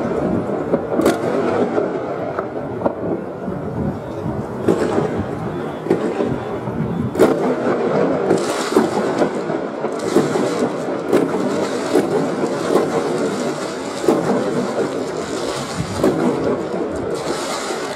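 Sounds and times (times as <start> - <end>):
fireworks bangs: 0.0 - 17.9
fireworks rumble and crackle: 0.0 - 17.9.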